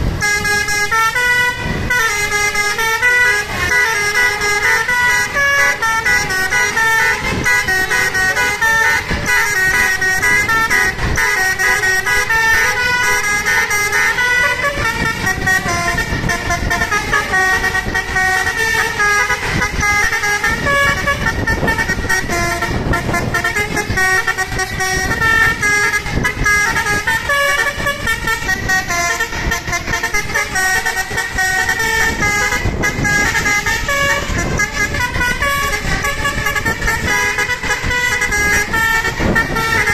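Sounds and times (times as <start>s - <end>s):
musical bus horn melody: 0.0s - 39.9s
road traffic noise: 0.0s - 39.9s.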